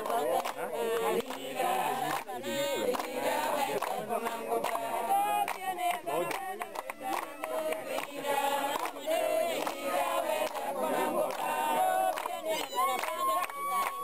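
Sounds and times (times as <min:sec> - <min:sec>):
group singing together: 0:00.0 - 0:14.0.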